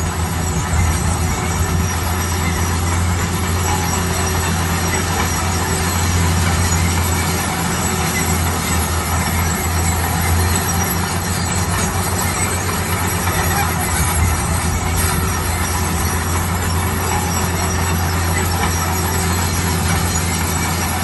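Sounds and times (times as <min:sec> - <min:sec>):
construction machinery engine rumble: 0:00.0 - 0:21.0.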